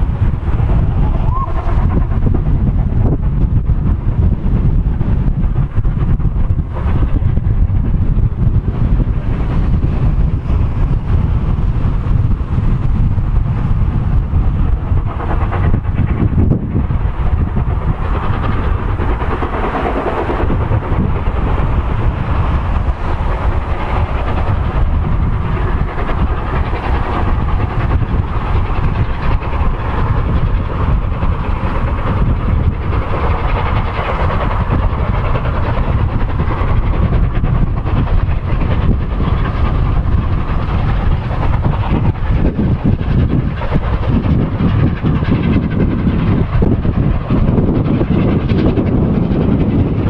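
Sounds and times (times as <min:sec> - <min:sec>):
steam locomotive hauling train: 0:00.0 - 0:50.0.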